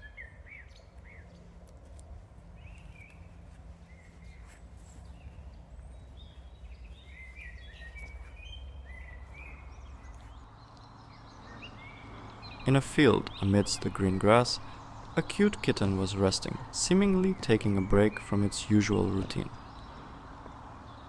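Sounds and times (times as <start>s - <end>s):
songbirds singing: 0.0s - 1.6s, 2.5s - 21.0s.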